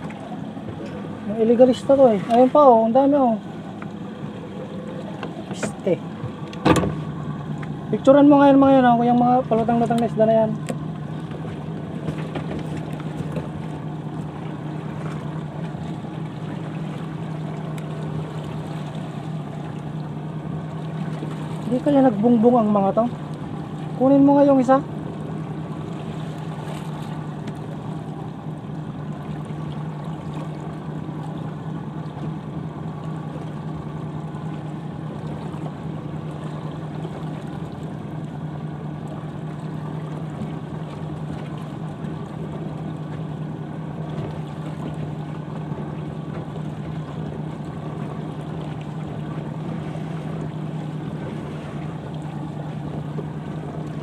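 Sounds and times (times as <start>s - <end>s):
motorboat engine droning: 0.0s - 54.0s.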